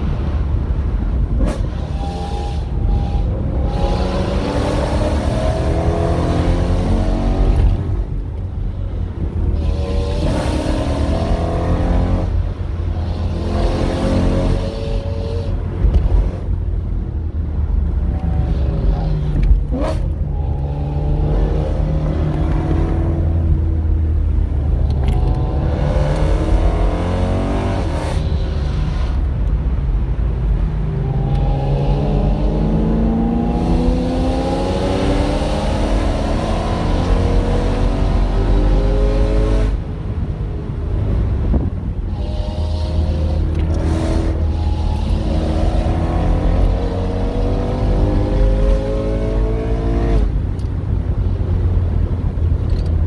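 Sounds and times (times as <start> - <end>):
road and tyre rumble: 0.0 - 53.0
car engine revving: 1.3 - 8.2, 9.4 - 16.6, 18.1 - 29.2, 30.8 - 39.8, 42.0 - 50.4.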